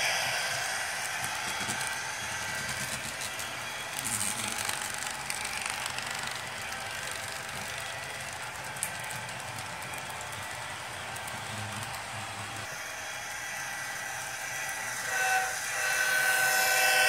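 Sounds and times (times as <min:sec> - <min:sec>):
model train wheels clicking: 0:00.0 - 0:17.0.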